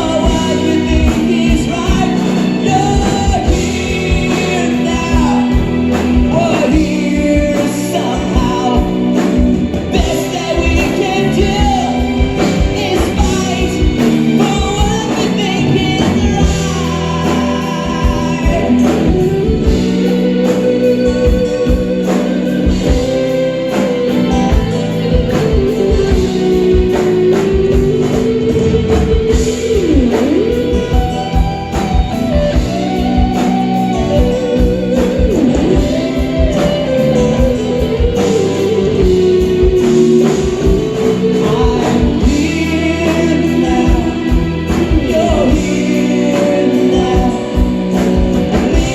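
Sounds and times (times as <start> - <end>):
drums: 0.0 - 48.9
gliding lead melody: 0.0 - 48.9
live rock band playing: 0.0 - 48.9.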